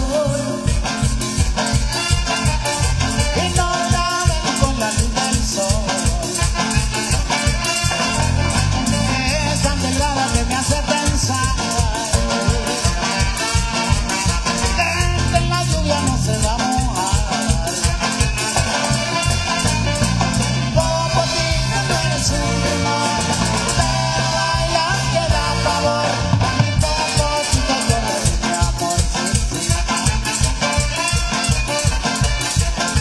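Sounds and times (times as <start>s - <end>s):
marimba dance music: 0.0s - 33.0s.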